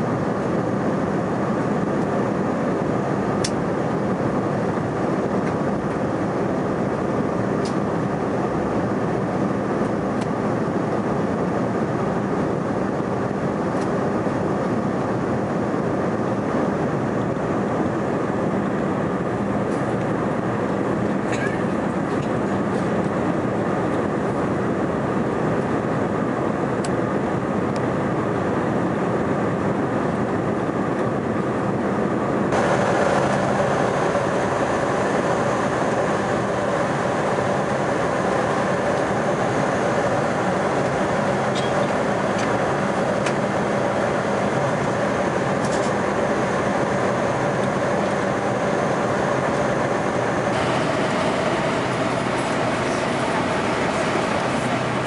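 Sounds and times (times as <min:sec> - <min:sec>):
jet airliner cabin noise: 0:00.0 - 0:55.0.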